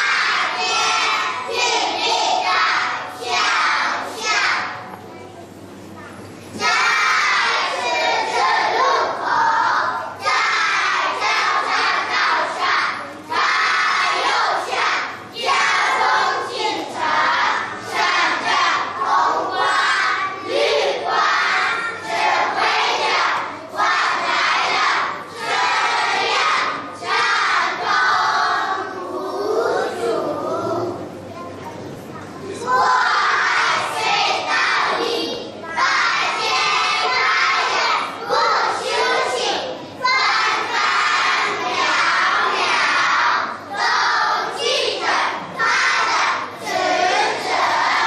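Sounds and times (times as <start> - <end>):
children reciting in unison: 0.0 - 4.9, 5.9 - 31.6, 32.2 - 48.0.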